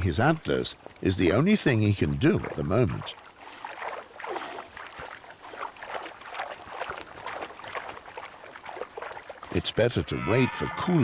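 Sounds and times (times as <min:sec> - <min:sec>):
water splashing in puddle: 0:00.0 - 0:10.2.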